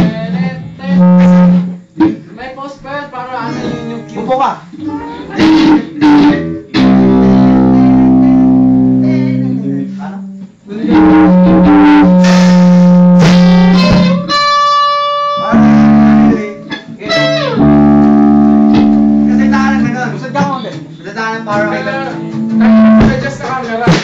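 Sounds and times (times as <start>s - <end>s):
electric guitars playing loud chords: 0.0s - 2.1s, 3.4s - 20.7s, 21.5s - 24.0s
high guitar note held: 0.8s - 2.1s, 3.4s - 20.2s, 21.5s - 23.4s.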